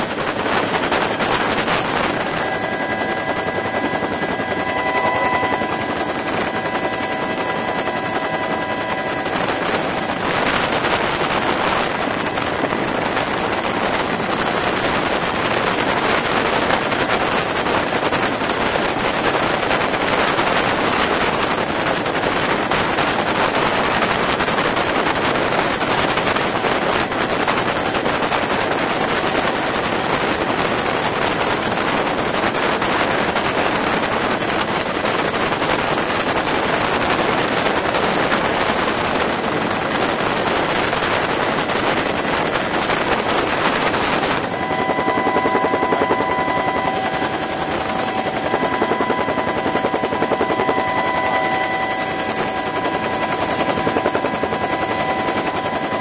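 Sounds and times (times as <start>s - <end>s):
helicopter rotor and engine noise: 0.0s - 56.0s.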